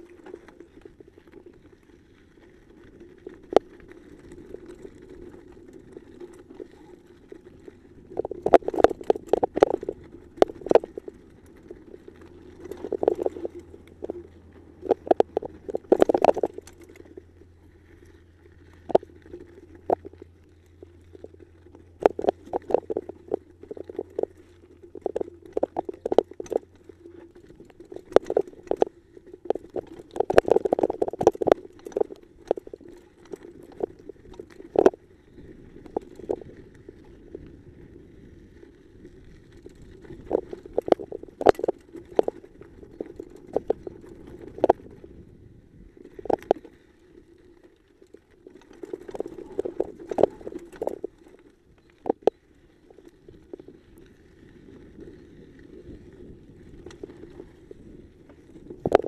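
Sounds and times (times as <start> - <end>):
bike tyres rumbling over stones: 0.0 - 59.0
wheels knocking on rocks: 0.0 - 59.0.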